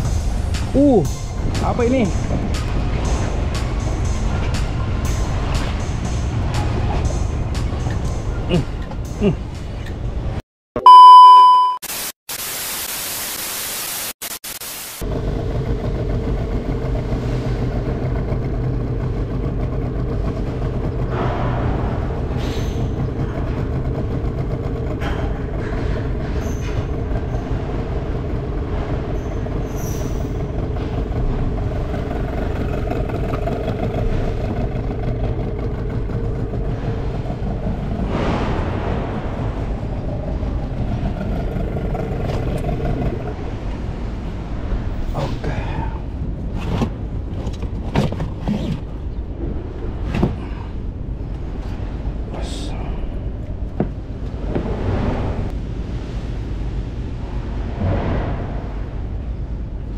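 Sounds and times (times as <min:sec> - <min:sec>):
machinery rumble and hum: 0:00.0 - 0:10.9, 0:15.0 - 0:59.9.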